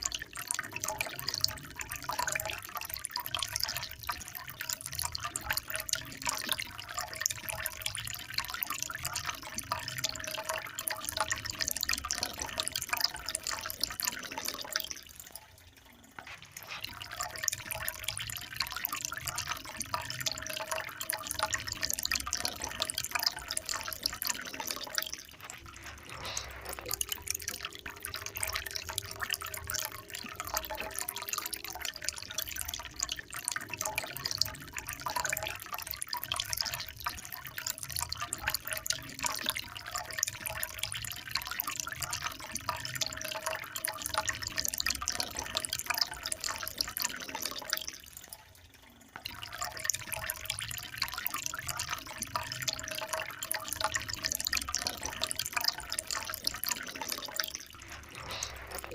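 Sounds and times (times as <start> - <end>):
small water drips: 0.0 - 58.9
water trickling and splashing: 0.0 - 58.9.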